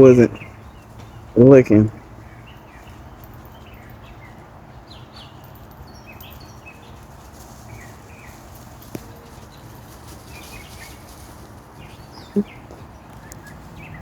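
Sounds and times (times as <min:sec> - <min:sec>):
low outdoor background hum: 0:00.0 - 0:14.0
small birds chirping: 0:00.0 - 0:14.0.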